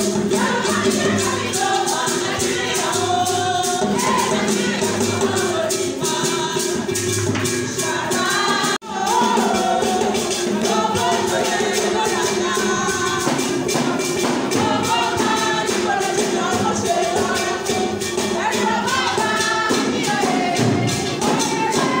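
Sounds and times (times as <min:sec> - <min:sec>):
group of voices singing: 0:00.0 - 0:22.0
shaken percussion beat: 0:00.0 - 0:22.0.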